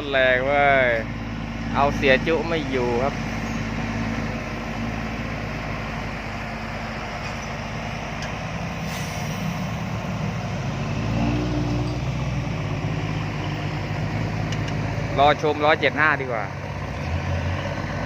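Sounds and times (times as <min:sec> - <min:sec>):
truck diesel engine working hard: 0:00.0 - 0:18.0.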